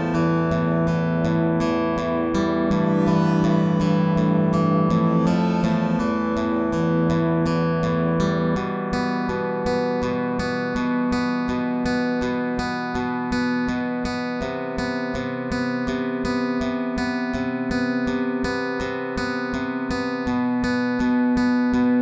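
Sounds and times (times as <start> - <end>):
guitar picking notes: 0.0 - 22.0.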